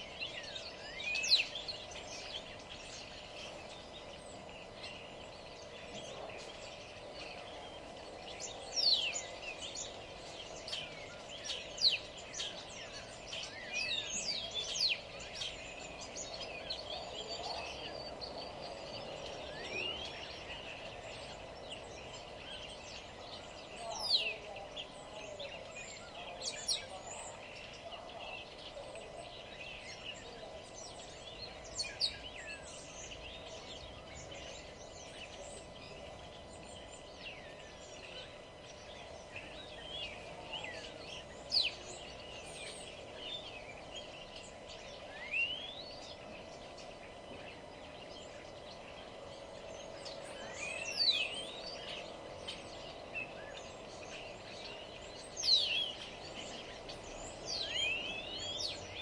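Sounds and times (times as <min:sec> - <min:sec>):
low background hum: 0:00.0 - 0:59.0
songbirds chirping: 0:00.0 - 0:59.0.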